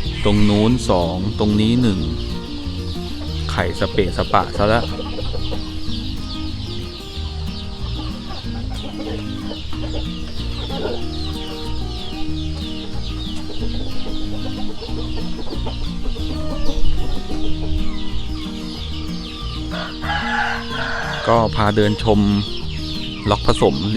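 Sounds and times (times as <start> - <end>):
background music: 0.0 - 23.9
chickens clucking: 0.0 - 23.9.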